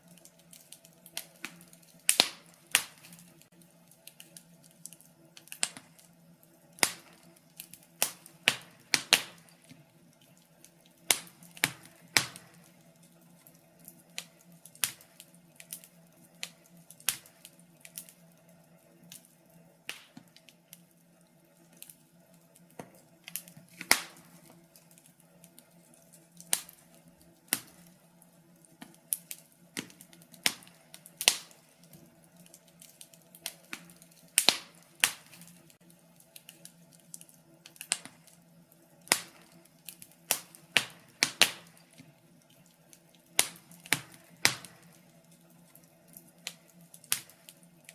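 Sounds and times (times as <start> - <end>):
faint steady hum: 0.0 - 47.9
wood fire crackling and popping: 0.0 - 47.9.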